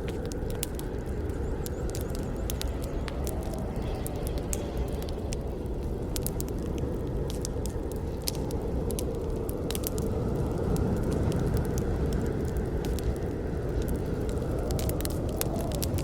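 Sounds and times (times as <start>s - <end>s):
burning wood crackling and popping: 0.0s - 16.0s
campfire flames rushing: 0.0s - 16.0s.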